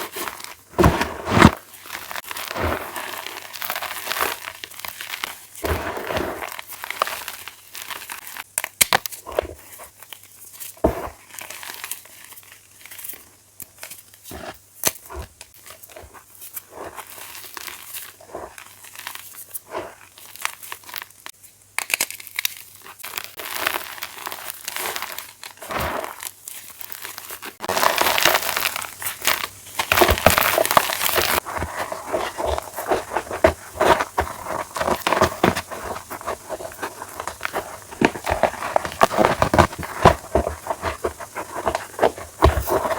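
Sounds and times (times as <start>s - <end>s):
chalk blocks crunching: 0.0s - 12.1s, 13.0s - 42.9s.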